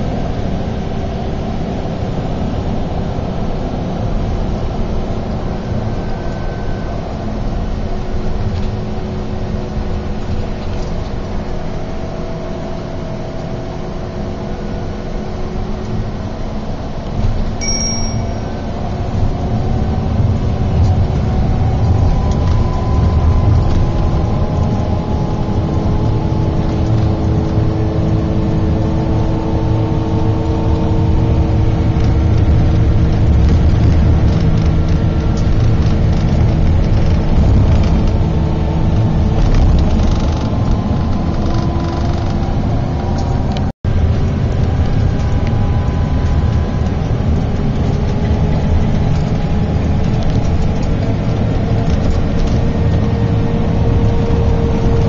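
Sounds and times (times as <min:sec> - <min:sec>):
bus engine and road rumble: 0:00.0 - 0:55.0
faint whining tones: 0:02.6 - 0:55.0.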